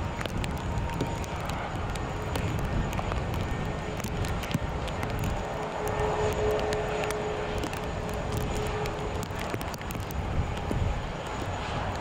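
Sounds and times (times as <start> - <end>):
jet engine rumble: 0.0 - 12.0
jet engine whine: 0.0 - 12.0.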